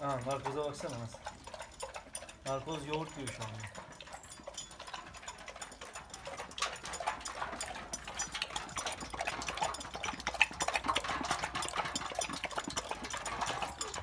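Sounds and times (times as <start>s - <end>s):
dog lapping: 0.0s - 14.0s.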